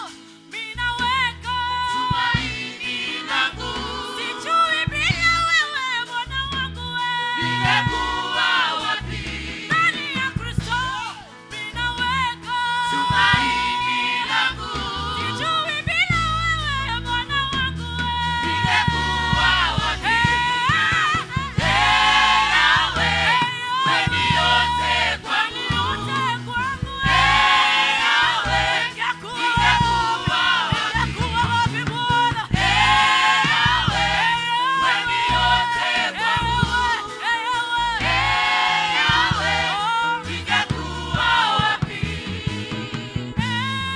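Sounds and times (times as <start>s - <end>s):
band accompaniment with bass: 0.0s - 43.9s
group singing gospel song: 0.0s - 43.9s.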